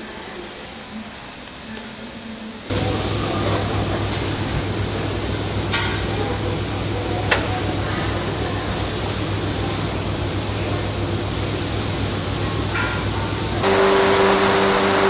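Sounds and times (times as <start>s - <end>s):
machine humming and whirring: 2.7s - 15.0s.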